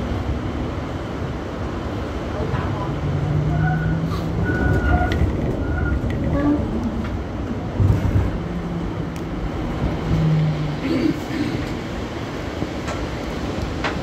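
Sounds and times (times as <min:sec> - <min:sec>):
tram wheels rumbling: 0:00.0 - 0:14.0.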